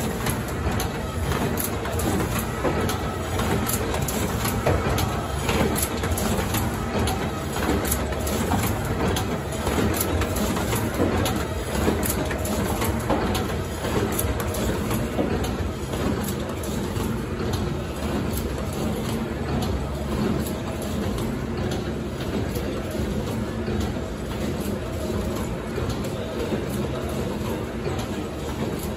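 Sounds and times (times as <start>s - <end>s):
wrapping machine clattering: 0.0s - 28.9s.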